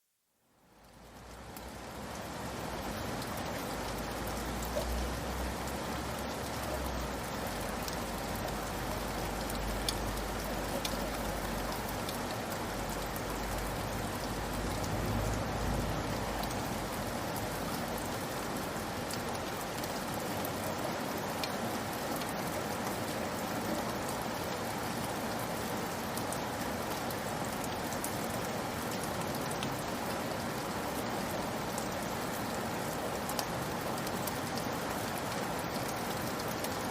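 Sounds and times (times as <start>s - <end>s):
rain falling: 0.4s - 36.9s
raindrops pattering: 0.7s - 36.9s.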